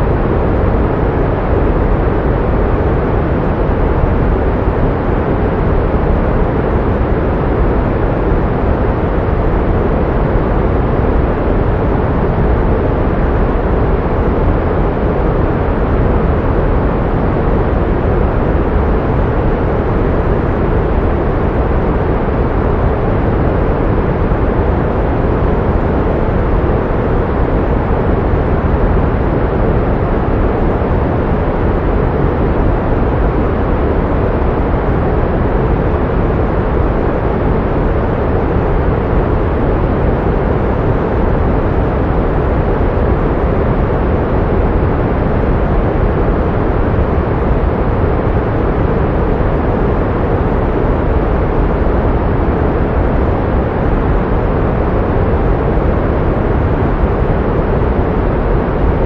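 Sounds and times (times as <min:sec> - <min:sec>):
pink noise: 0:00.0 - 0:59.0.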